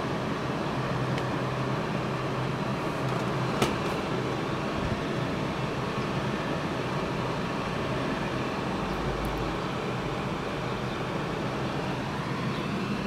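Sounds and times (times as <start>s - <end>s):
electric fan blowing: 0.0s - 13.0s.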